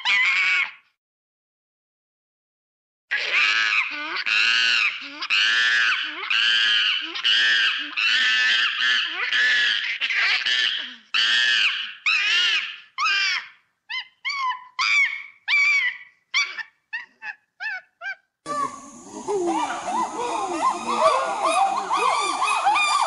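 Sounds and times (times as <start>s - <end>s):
monkeys squealing: 0.0s - 0.7s, 3.1s - 23.0s.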